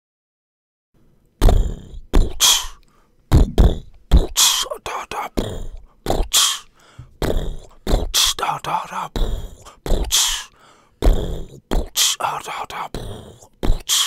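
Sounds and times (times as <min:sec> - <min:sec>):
person beatboxing: 0:01.4 - 0:14.0.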